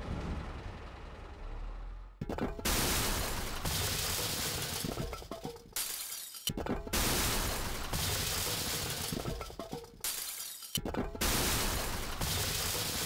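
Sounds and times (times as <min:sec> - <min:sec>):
debris crashing and shattering: 0:02.2 - 0:13.0.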